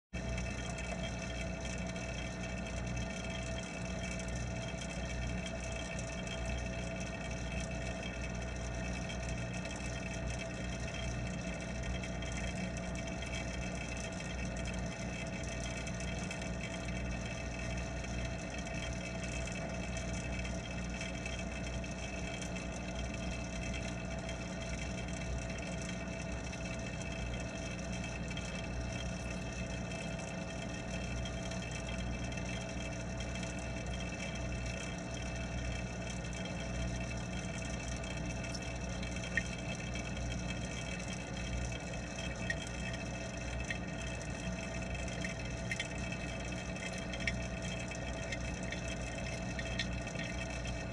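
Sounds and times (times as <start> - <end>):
underwater pump hum: 0.1 - 50.9.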